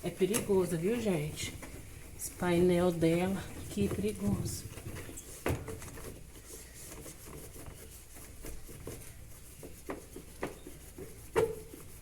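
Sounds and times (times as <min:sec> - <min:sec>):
cloth rubbing a panel: 0:00.0 - 0:12.0.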